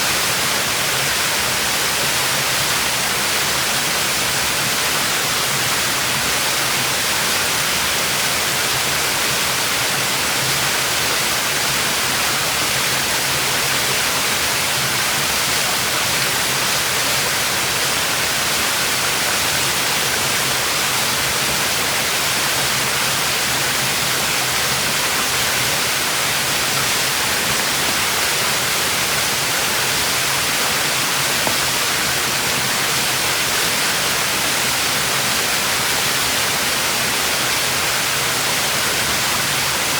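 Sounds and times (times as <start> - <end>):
waterfall rushing onto rock: 0.0 - 39.9.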